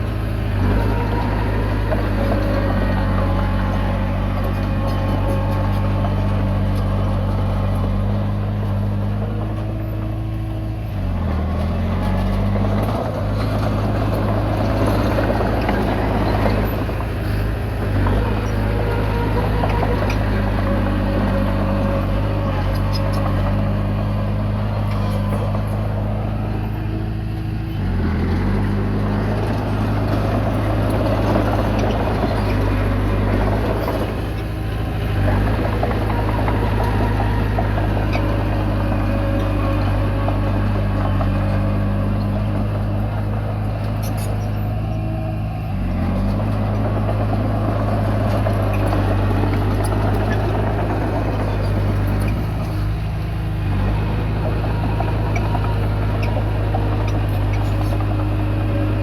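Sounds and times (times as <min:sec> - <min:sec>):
bulldozer diesel engine under load: 0:00.0 - 0:59.0
machine mechanical noise: 0:11.5 - 0:59.0.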